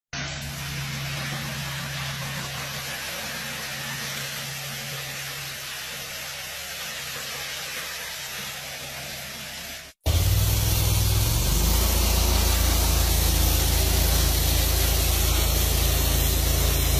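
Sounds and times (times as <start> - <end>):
pressure washer spray hissing: 0.2 - 16.9.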